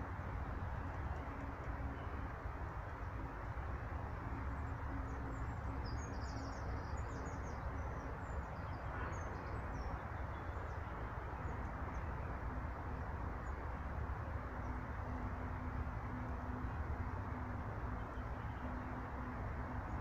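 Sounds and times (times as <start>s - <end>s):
songbirds chirping: 3.2s - 20.0s.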